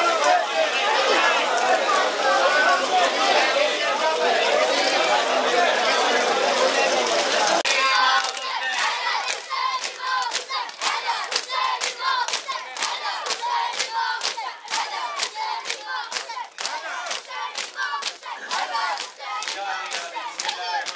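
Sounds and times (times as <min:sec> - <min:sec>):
crowd shouting together: 0:00.0 - 0:20.9.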